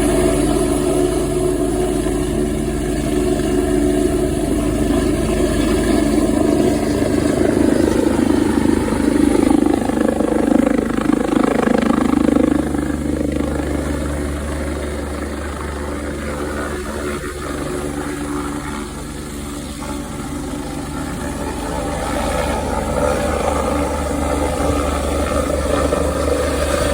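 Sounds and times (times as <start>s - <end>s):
helicopter engine and rotor drone: 0.0s - 26.9s.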